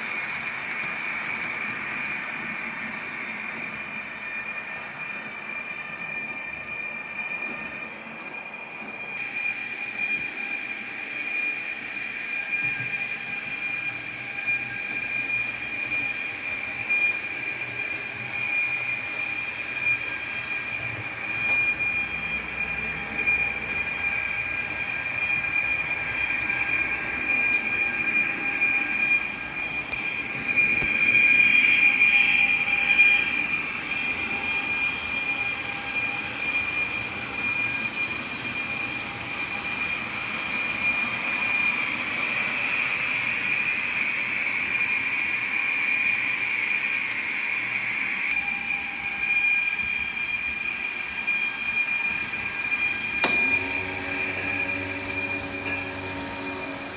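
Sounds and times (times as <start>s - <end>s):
model train running sound: 0.0s - 56.9s.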